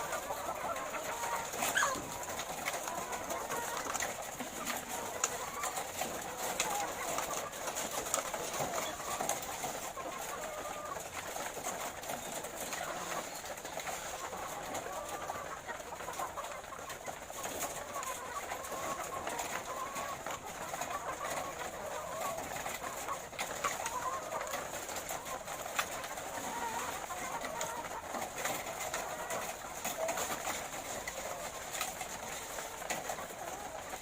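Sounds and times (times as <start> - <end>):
hens calling: 0.0 - 34.0.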